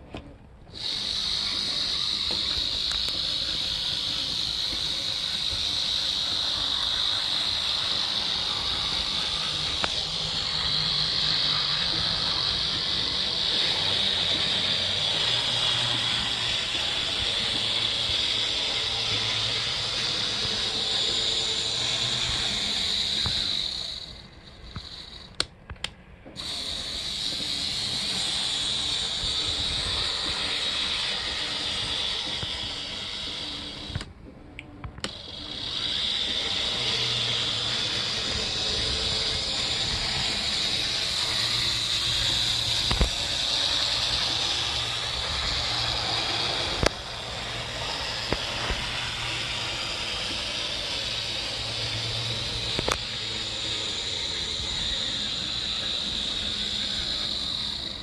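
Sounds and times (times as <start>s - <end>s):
model train motor whirring: 0.0s - 58.0s.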